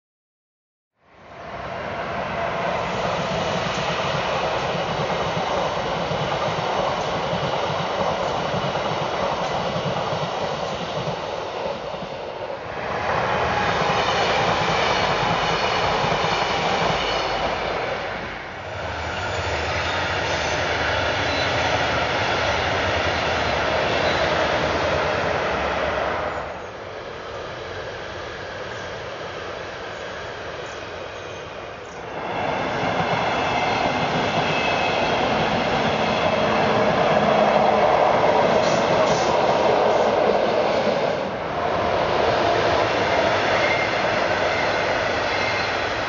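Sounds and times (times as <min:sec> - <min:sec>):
train wheels rolling on rails: 0:01.9 - 0:46.0.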